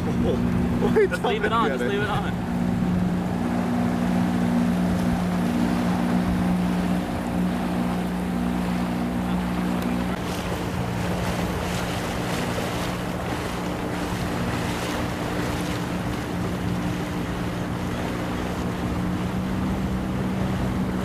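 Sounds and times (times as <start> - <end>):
motorboat engine running: 0.0 - 21.0
water rushing past hull: 0.0 - 21.0
wind buffeting microphone: 0.0 - 21.0.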